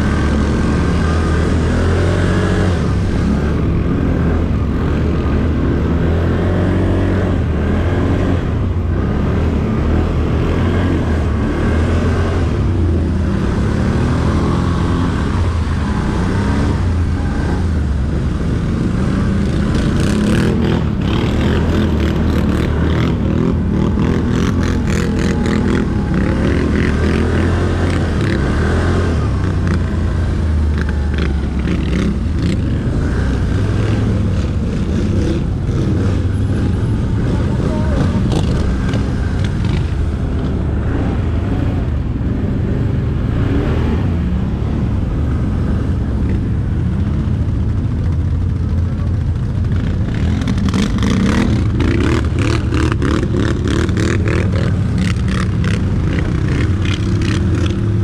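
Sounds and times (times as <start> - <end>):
atv engine droning: 0.0 - 58.0.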